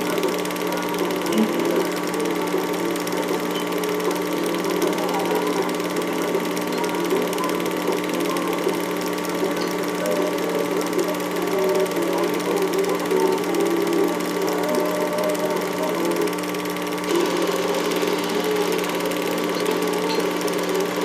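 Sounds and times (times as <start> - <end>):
film mechanism chatter: 0.0 - 21.0
projector motor hum: 0.0 - 21.0.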